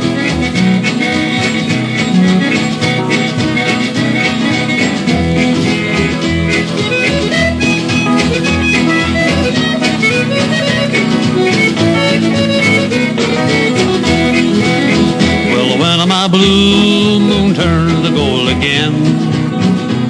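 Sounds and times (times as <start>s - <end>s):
bass: 0.0s - 20.0s
country string band playing: 0.0s - 20.0s
fiddle: 0.0s - 20.0s
guitar: 0.0s - 20.0s.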